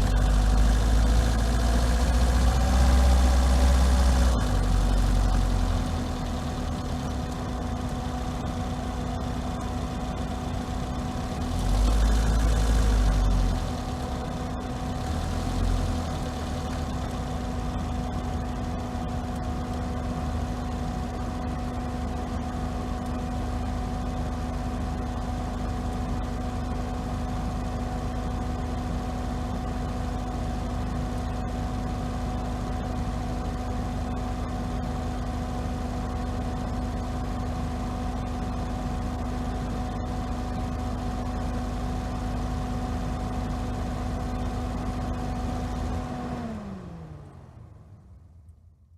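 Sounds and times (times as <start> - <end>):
car engine running steadily: 0.0 - 48.9.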